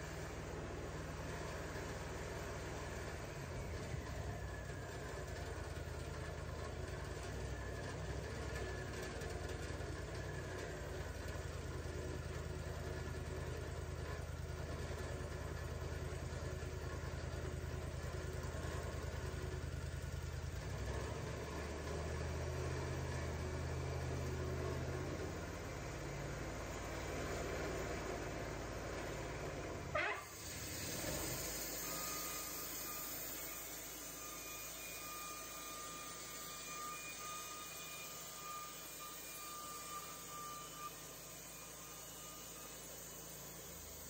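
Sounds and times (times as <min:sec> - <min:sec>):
engine idling: 0:00.0 - 0:44.0.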